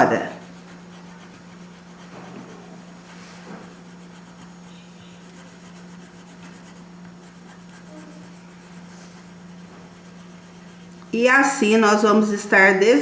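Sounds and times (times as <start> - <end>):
pencil scratching on paper: 0.0 - 11.9
steady low hum: 0.0 - 13.0.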